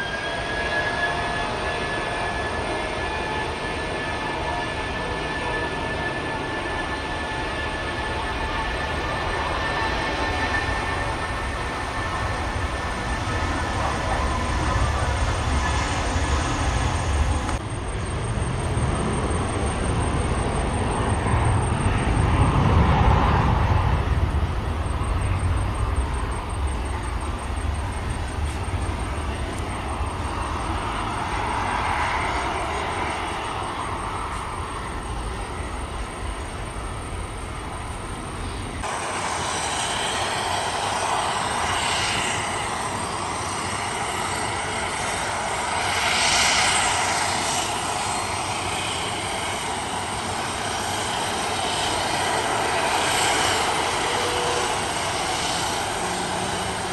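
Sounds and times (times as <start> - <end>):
jet engines at takeoff: 0.0 - 56.9.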